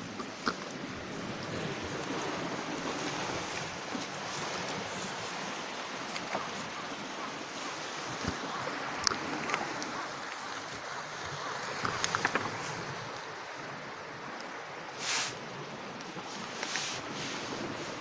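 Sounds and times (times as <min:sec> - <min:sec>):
sea surf on stony shore: 0:00.0 - 0:18.0.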